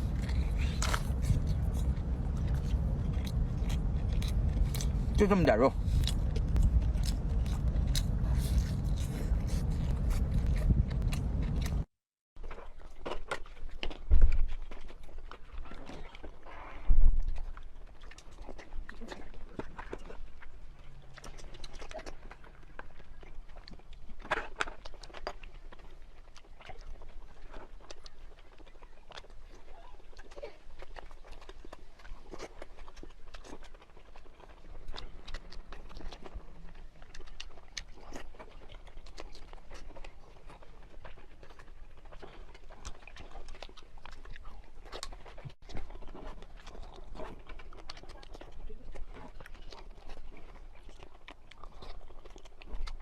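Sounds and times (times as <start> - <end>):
wet chewing: 0.0 - 53.0.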